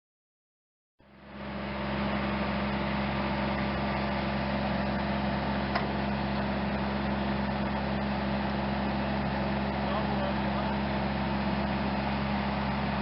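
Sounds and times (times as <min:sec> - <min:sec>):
engine-like hum: 0:01.0 - 0:13.0.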